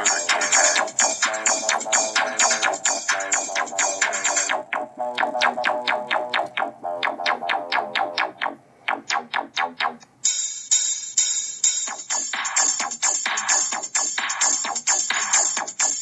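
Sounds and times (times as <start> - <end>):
electronic music from phone speaker: 0.0 - 16.0.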